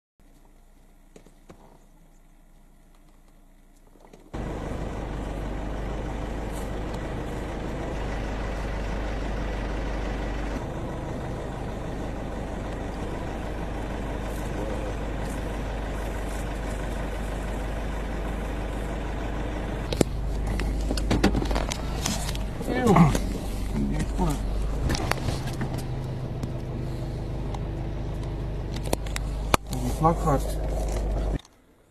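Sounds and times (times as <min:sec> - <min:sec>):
vehicle engine idling: 0:00.2 - 0:31.9.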